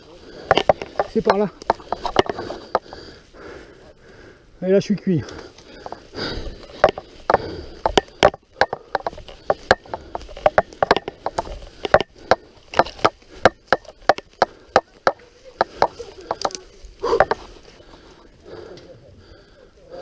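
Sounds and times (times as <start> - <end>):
bike rattling over rough trail: 0.0 - 19.0.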